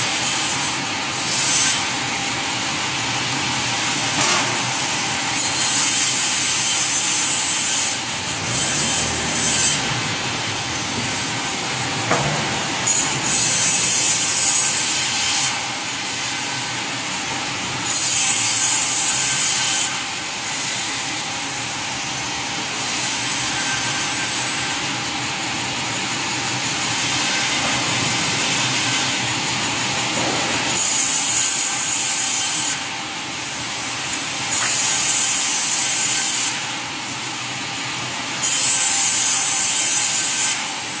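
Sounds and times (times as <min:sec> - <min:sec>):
saw cutting wood: 0:00.0 - 0:21.0, 0:22.2 - 0:37.1, 0:38.3 - 0:41.0
steady machinery noise: 0:00.0 - 0:41.0.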